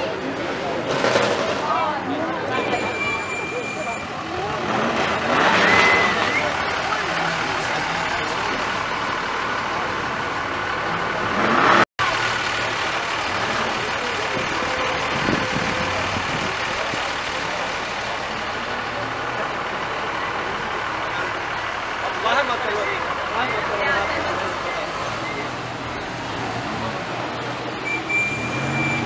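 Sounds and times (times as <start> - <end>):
crowd murmur: 0.0 - 29.0
vehicles rolling past: 0.0 - 29.0.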